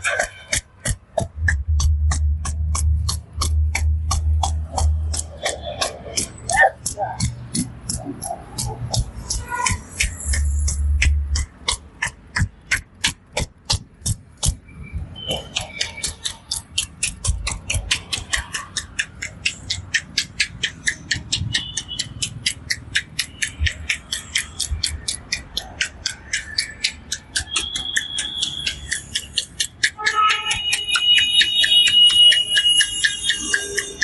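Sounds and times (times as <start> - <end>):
hands tapping on head: 0.0 - 34.0.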